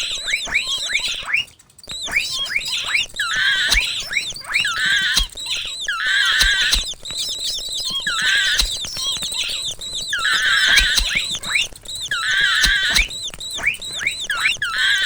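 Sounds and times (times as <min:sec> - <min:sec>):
mouse squeaking: 0:00.0 - 0:15.0
short clicks: 0:00.0 - 0:15.0.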